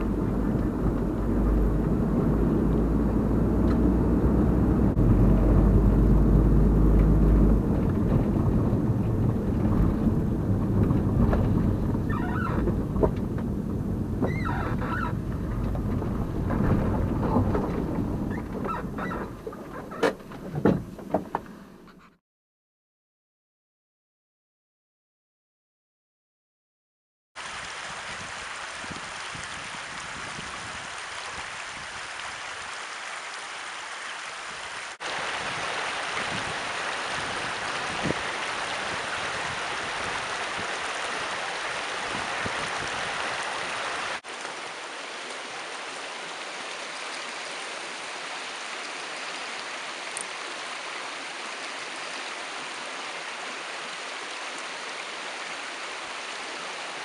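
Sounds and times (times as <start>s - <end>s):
stream water running over rocks: 0.0s - 21.5s, 27.4s - 57.0s.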